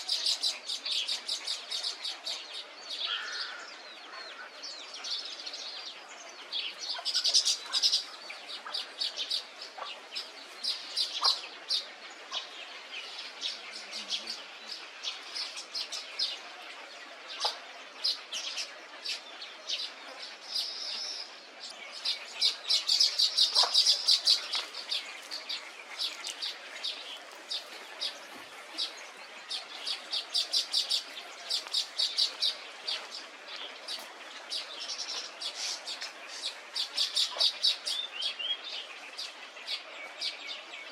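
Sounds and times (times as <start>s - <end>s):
dense chorus of bird chirps: 0.0s - 40.9s.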